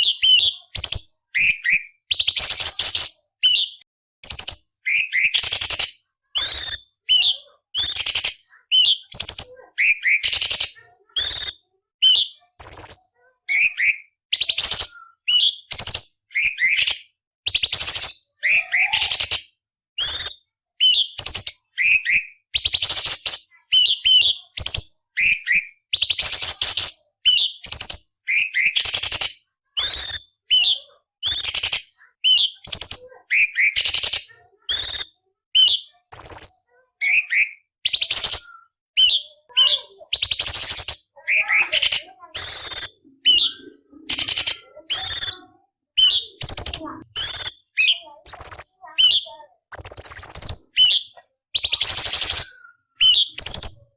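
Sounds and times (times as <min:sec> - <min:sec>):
bird singing rasps and whistles: 0:00.0 - 0:53.9.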